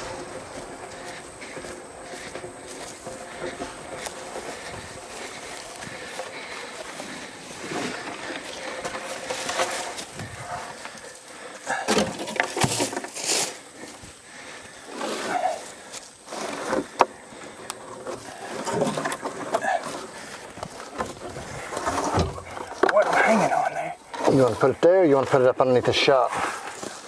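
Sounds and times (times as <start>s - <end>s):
wooden board and jack scraping: 0.0s - 27.0s.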